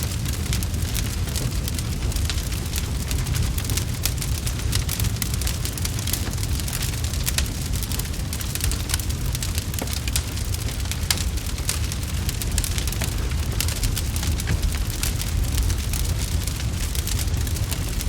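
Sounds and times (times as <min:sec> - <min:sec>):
fireplace fire crackling: 0:00.0 - 0:18.0
low rumble: 0:00.0 - 0:18.0.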